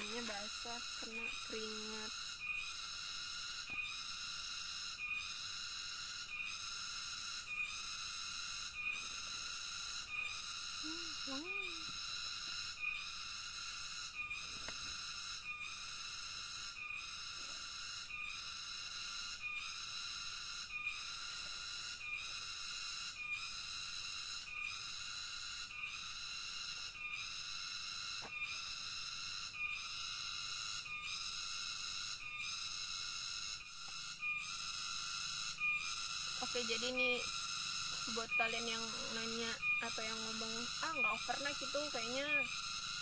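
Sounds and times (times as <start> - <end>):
insect shrill buzzing: 0.0 - 43.0.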